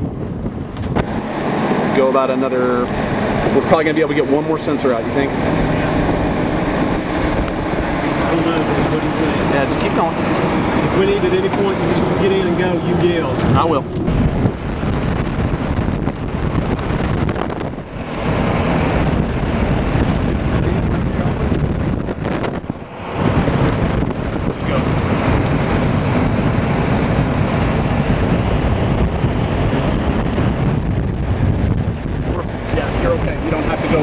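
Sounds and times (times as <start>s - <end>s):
strong wind on microphone: 0.0s - 34.0s.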